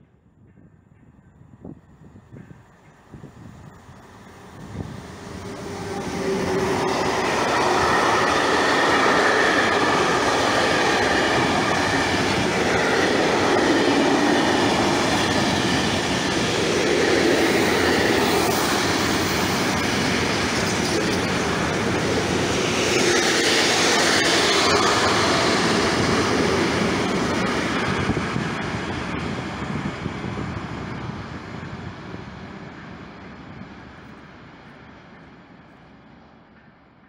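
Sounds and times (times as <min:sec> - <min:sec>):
train wheels rumbling and clattering: 0:00.4 - 0:37.0.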